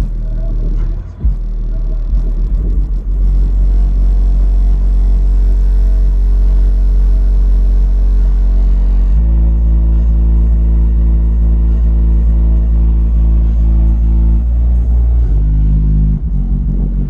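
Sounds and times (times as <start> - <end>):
bass-heavy music from subwoofers: 0.0 - 17.0.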